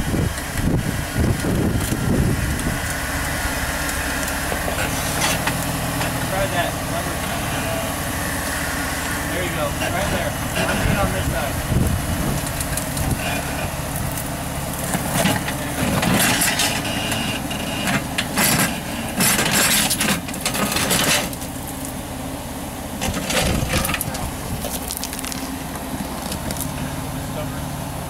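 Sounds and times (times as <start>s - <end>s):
engine running at low speed: 0.0s - 28.0s
rock crunching under tyres: 0.2s - 22.0s, 23.0s - 26.8s.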